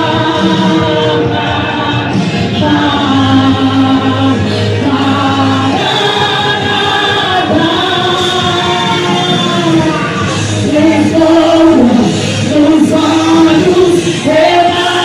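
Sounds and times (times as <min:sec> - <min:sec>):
vocal group singing a hymn: 0:00.0 - 0:15.0.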